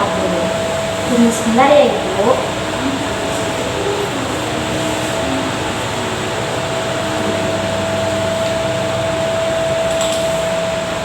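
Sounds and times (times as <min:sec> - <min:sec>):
machine hiss and hum: 0:00.0 - 0:11.0.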